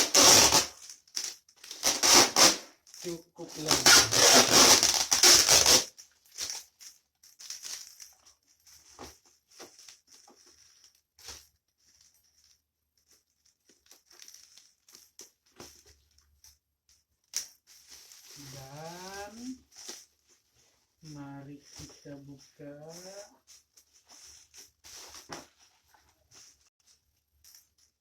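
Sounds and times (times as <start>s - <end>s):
wrapping rustling and clicking: 0.0s - 16.4s, 17.2s - 28.0s.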